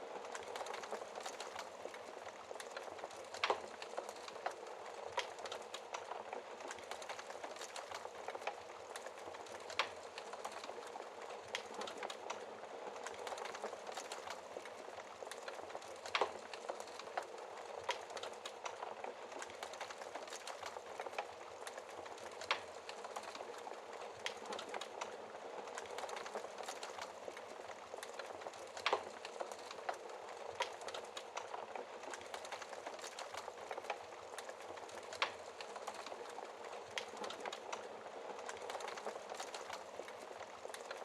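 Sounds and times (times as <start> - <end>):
logs crackling in a fireplace: 0.0 - 41.0.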